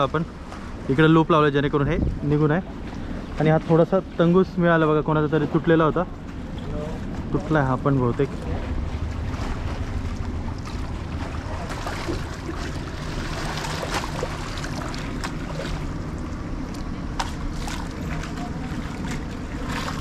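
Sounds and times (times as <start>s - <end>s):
splashes of wading: 0.0s - 20.0s
water lapping at stone steps: 0.0s - 20.0s
wind rumbling on microphone: 0.0s - 20.0s.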